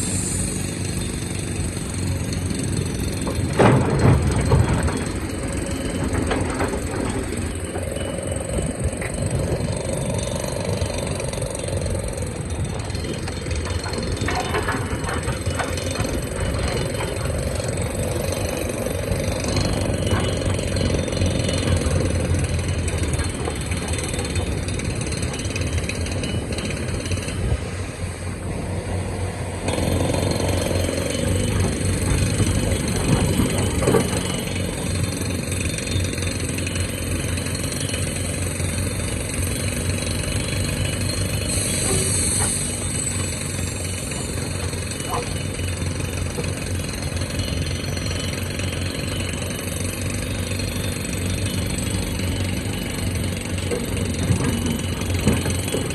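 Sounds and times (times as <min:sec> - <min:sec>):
excavator diesel engine running: 0:00.0 - 0:55.9
hydraulic whine: 0:00.0 - 0:55.9.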